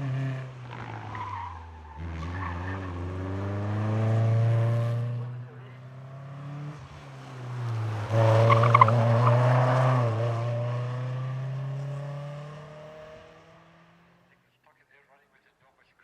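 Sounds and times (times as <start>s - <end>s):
car engine at full throttle: 0.0s - 14.2s.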